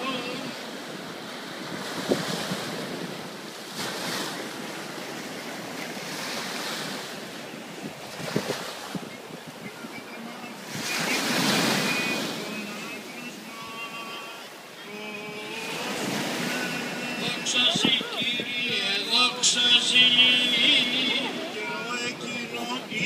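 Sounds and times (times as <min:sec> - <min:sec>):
wind buffeting microphone: 0:00.0 - 0:13.8, 0:15.2 - 0:23.0
waves washing on sand: 0:00.0 - 0:23.0.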